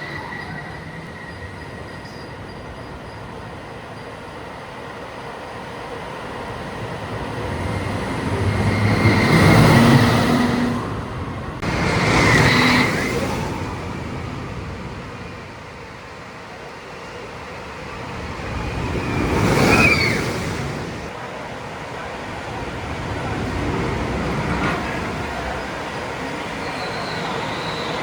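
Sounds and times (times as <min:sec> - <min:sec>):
roller coaster wheels rumbling: 0:00.0 - 0:28.0.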